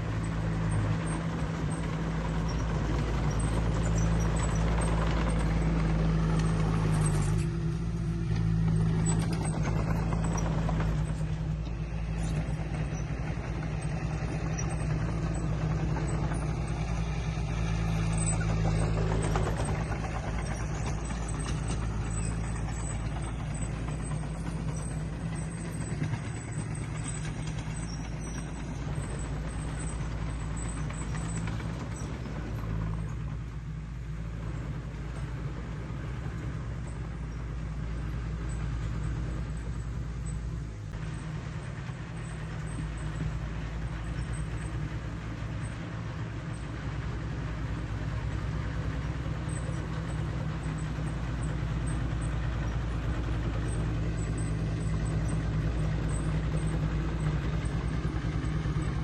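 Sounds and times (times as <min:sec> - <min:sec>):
heavy machinery diesel engine drone: 0:00.0 - 0:59.0.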